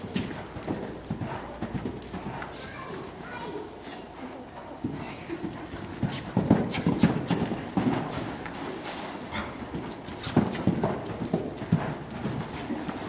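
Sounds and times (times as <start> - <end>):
horse hoofbeats on dirt: 0.0 - 13.0.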